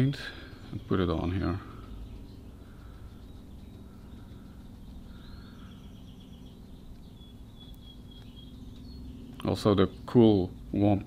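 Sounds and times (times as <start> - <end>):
birds chirping and trilling: 0.0 - 11.0
low steady hum: 0.0 - 11.0.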